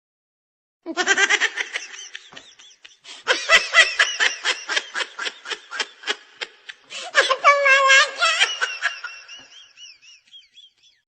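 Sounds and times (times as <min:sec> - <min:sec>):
high-pitched snickering laugh: 0:00.9 - 0:11.0.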